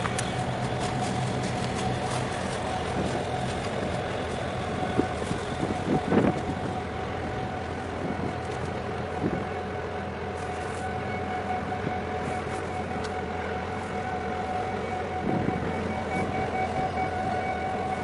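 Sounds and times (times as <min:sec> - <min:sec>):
constant whine: 0:00.0 - 0:18.0
ship engines humming: 0:00.0 - 0:18.0
water noise: 0:00.0 - 0:18.0
wind: 0:00.0 - 0:18.0.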